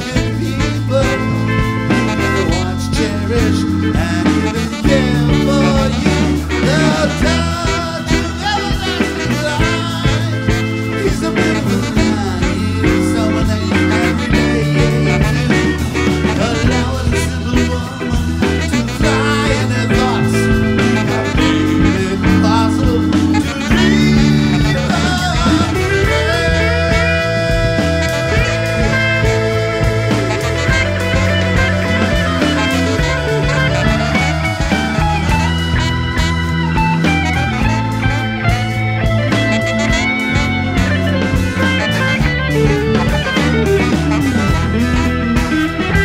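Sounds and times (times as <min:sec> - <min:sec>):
live ska band playing: 0:00.0 - 0:46.0
man singing: 0:00.0 - 0:46.0
saxophone lead: 0:00.0 - 0:46.0.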